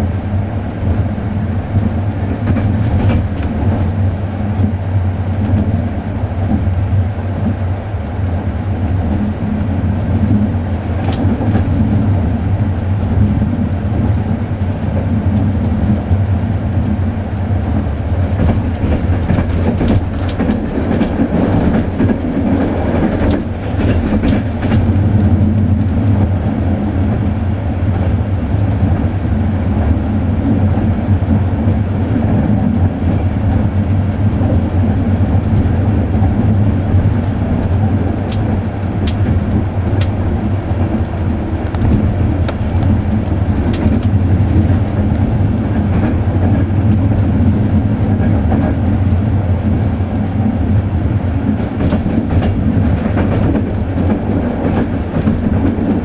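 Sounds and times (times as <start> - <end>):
train clicks: 0.0 - 56.0
train wheels rumbling on rail: 0.0 - 56.0.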